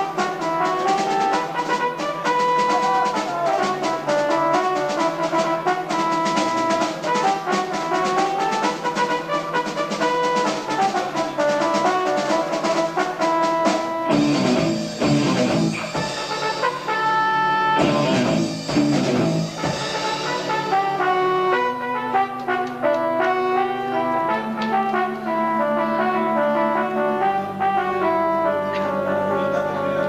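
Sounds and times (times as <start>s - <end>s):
cymbals: 0.0s - 29.7s
brass-like keyboard melody: 0.0s - 30.0s
live rock band playing: 0.0s - 30.0s.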